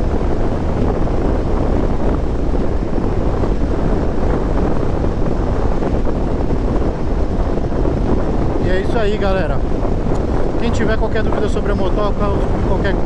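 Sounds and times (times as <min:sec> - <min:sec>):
road noise: 0:00.0 - 0:13.0
wind noise on microphone: 0:00.0 - 0:13.0.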